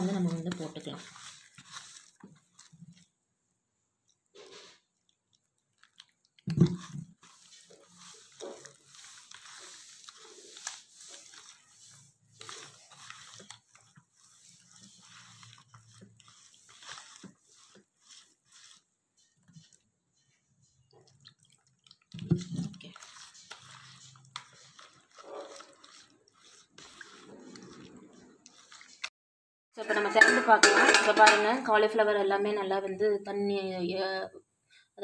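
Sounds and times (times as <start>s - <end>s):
hand squelching thick batter: 0.0s - 29.1s.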